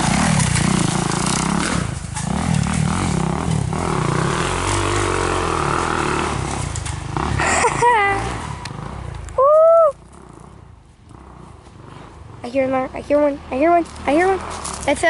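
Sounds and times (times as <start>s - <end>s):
dirt bike engine revving: 0.0s - 9.2s, 10.0s - 15.0s.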